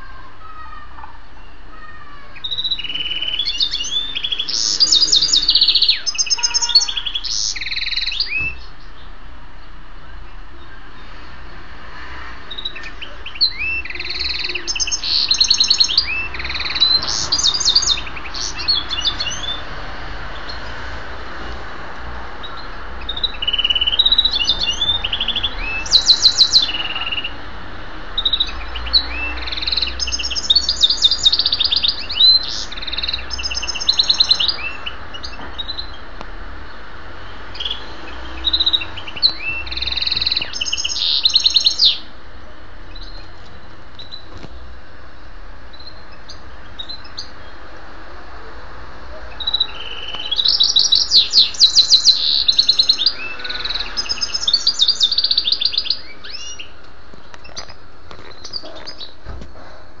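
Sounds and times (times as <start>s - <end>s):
finch singing trills: 0.0s - 11.1s, 12.4s - 20.8s, 22.3s - 42.1s, 42.9s - 44.7s, 45.7s - 47.7s, 49.3s - 59.3s.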